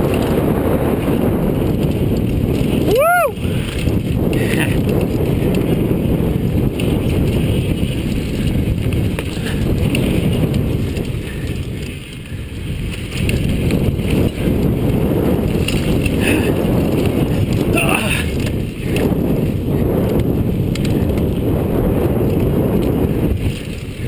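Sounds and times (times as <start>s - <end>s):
bike rattling and clicking: 0.0s - 24.0s
bike tyre noise on dirt: 0.0s - 24.0s
wind rumble on microphone: 0.0s - 24.0s.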